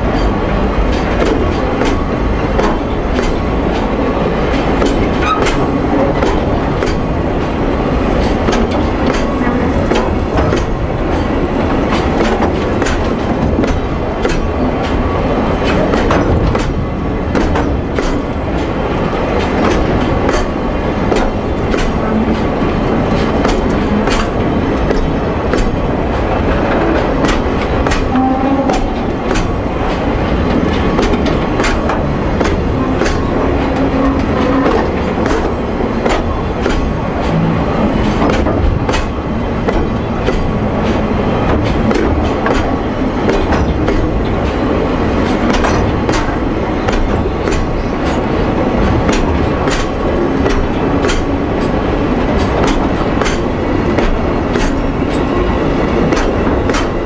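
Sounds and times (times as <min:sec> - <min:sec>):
freight train rumbling past: 0:00.0 - 0:57.0
wheels clicking over rail joints: 0:00.0 - 0:57.0.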